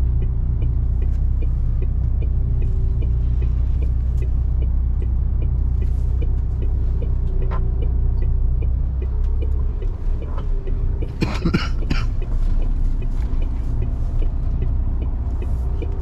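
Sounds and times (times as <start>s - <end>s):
faint regular ticking: 0.0s - 16.0s
truck diesel engine running: 0.0s - 16.0s.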